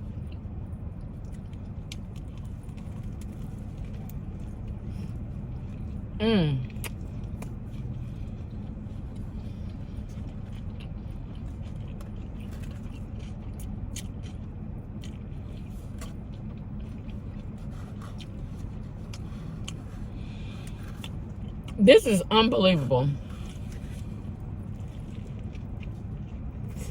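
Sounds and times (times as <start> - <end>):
close-up chewing: 0.0 - 21.8, 23.1 - 26.9
car interior hum: 0.0 - 26.9.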